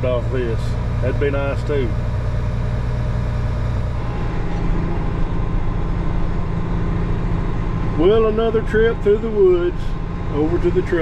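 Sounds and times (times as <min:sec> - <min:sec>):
heavy diesel engine droning: 0:00.0 - 0:11.0.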